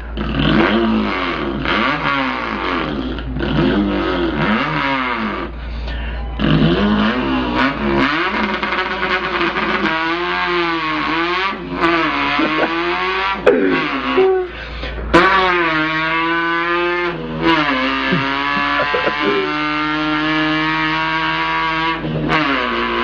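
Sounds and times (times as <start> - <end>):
man imitating engine revving: 0.0 - 23.0.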